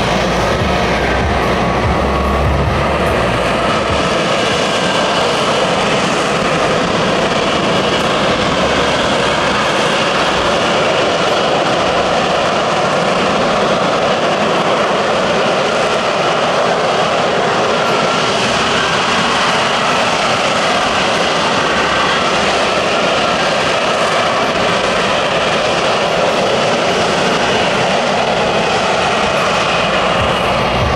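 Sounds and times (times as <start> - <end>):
loud jet engine noise: 0.0 - 30.9.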